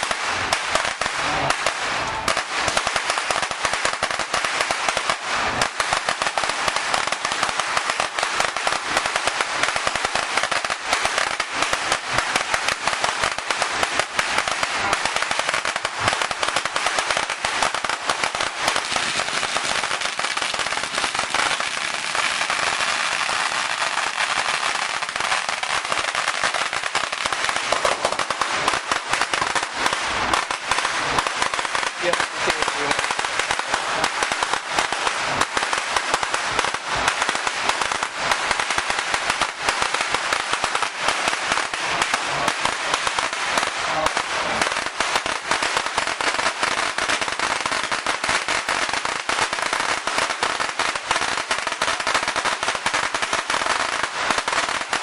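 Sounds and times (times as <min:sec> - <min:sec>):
firecrackers going off: 0:00.0 - 0:55.0.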